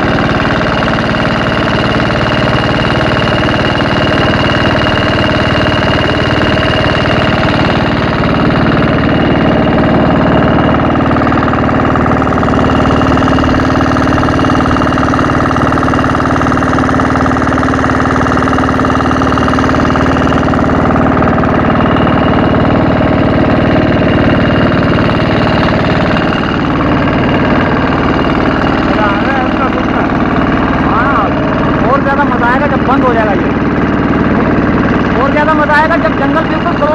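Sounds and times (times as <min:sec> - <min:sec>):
boat engine droning: 0:00.0 - 0:36.9.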